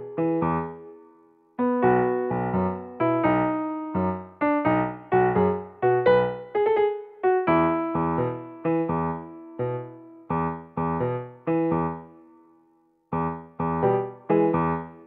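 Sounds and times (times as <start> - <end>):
light piano tune: 0.0 - 15.0.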